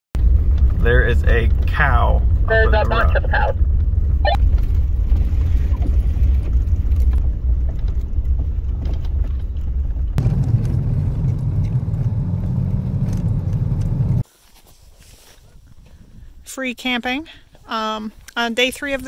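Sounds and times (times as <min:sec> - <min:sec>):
car engine and tyre rumble: 0:00.2 - 0:15.6.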